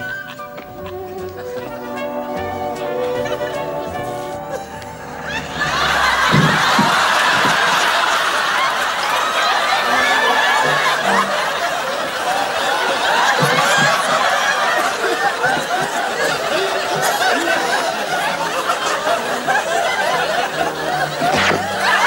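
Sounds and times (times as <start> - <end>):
audience laughing: 0.0 - 22.0.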